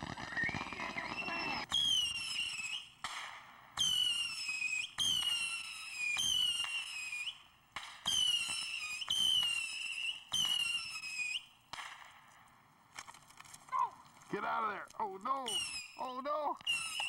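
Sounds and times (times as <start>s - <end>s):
whistling fireworks: 0.0s - 12.2s, 15.4s - 17.0s.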